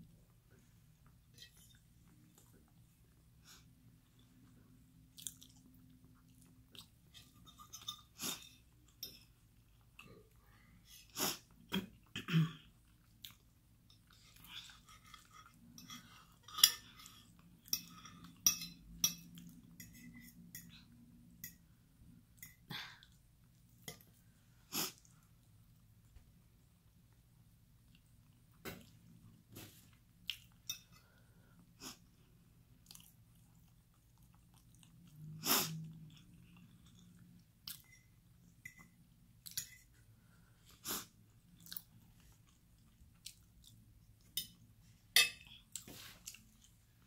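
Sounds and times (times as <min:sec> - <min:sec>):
person chewing food: 0:01.0 - 0:10.4, 0:11.2 - 0:21.6, 0:22.4 - 0:47.0.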